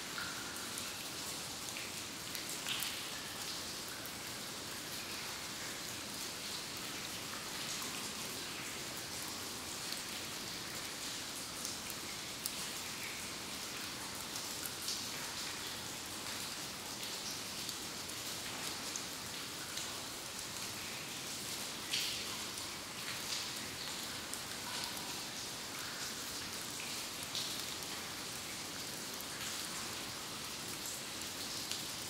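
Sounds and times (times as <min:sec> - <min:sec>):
steady hiss of water: 0:00.0 - 0:32.0
water drips in a cave: 0:00.0 - 0:32.0.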